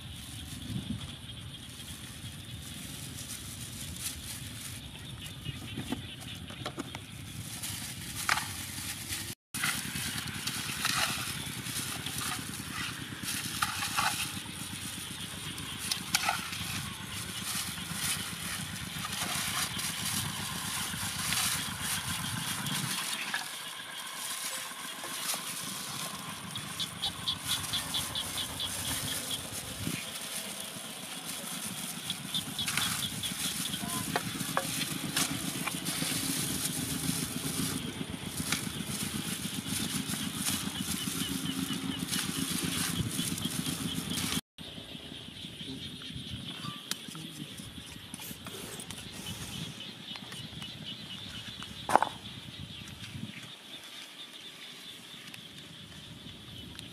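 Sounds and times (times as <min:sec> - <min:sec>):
steady low rumble: 0:00.0 - 0:46.5.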